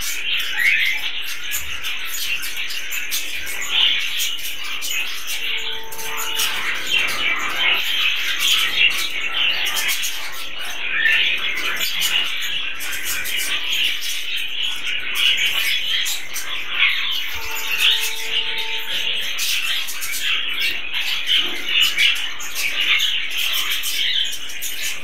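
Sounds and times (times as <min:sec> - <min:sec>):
budgies chattering and warbling: 0:00.0 - 0:25.0.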